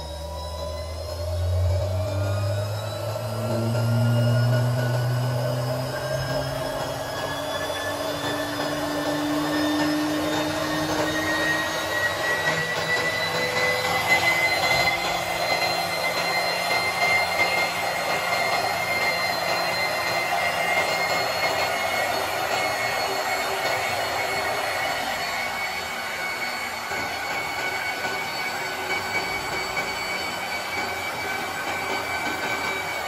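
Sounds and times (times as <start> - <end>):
electric motor whine: 0.0 - 33.0.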